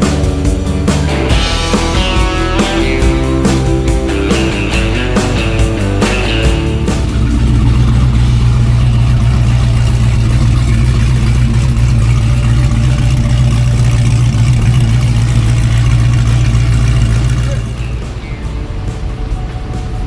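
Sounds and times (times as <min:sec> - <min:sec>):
music: 0:00.0 - 0:20.0
truck engine idling: 0:00.0 - 0:20.0.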